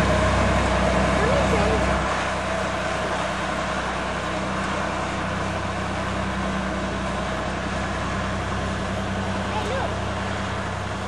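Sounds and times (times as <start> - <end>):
vehicle running noise: 0.0 - 11.0.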